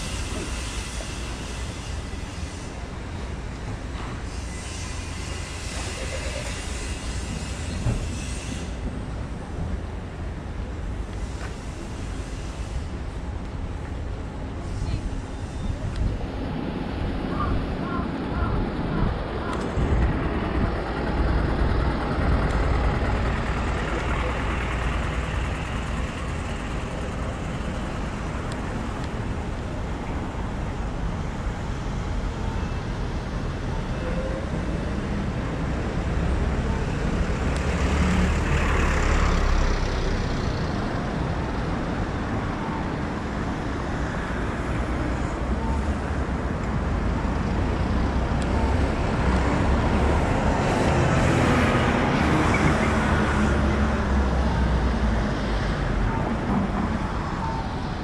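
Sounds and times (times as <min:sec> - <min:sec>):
passing road traffic: 0:00.0 - 0:58.0.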